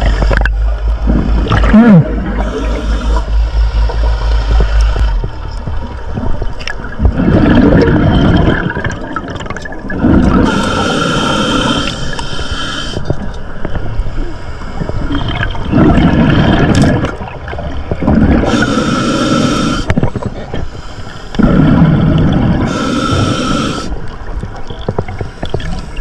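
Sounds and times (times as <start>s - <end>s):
underwater rush of water: 0.0s - 26.0s.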